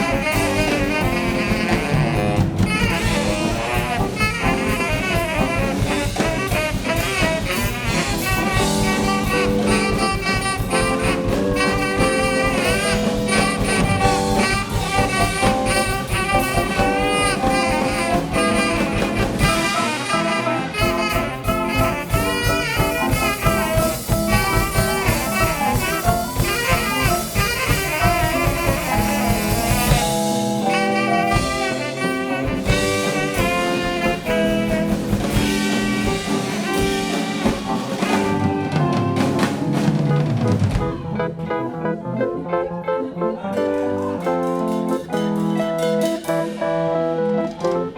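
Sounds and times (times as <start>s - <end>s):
horns or saxophone: 0.0s - 46.6s
live band playing jazzy funk: 0.0s - 47.9s.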